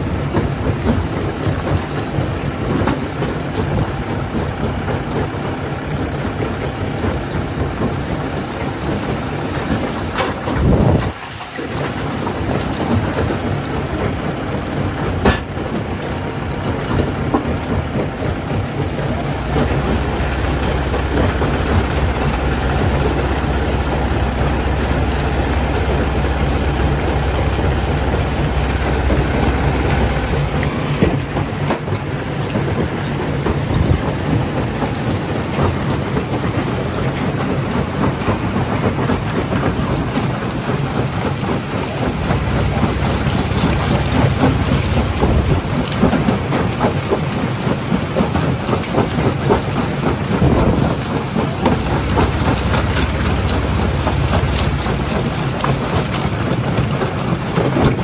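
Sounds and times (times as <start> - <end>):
deep machine drone: 0.0 - 58.0.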